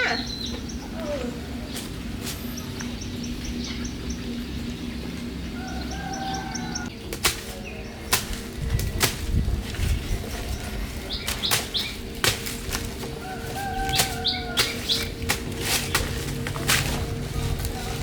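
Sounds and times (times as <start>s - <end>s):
bird chirping: 0.0s - 18.0s
steady low rumble: 0.2s - 18.0s.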